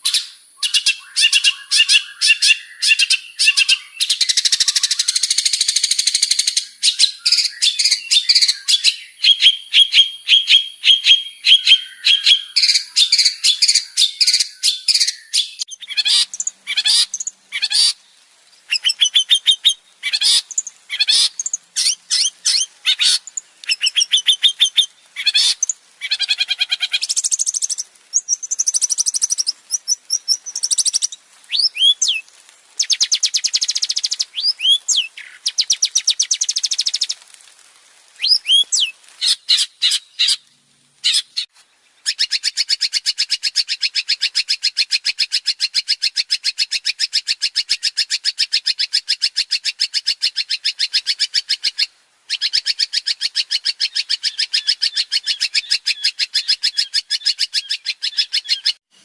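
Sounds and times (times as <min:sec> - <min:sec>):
bird singing varied song: 0:00.0 - 0:37.2, 0:38.2 - 0:58.9.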